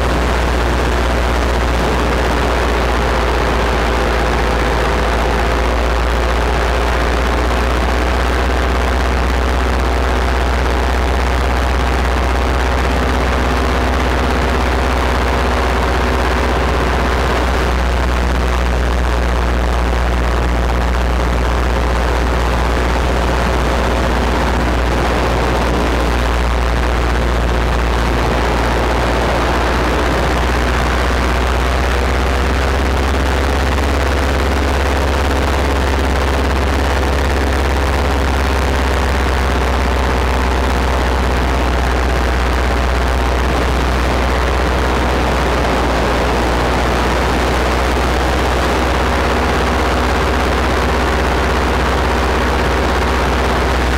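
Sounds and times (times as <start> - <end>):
paramotor engine and propeller drone: 0.0 - 53.9.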